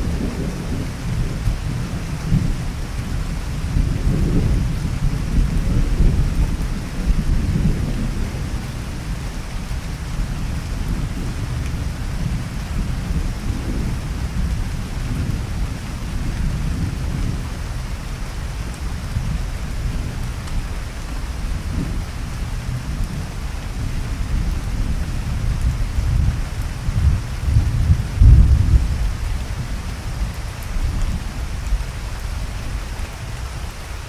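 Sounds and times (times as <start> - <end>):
rolling thunder: 0.0 - 33.8
steady rain: 0.0 - 34.0.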